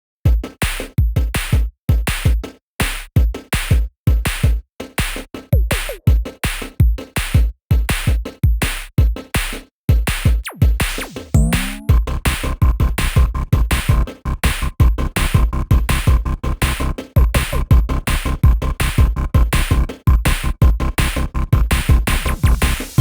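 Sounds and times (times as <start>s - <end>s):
electronic music with drum-machine beat: 0.3s - 23.0s.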